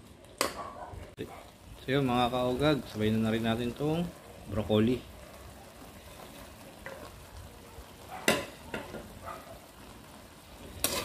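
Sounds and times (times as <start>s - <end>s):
food hissing in a wok: 1.5s - 11.0s.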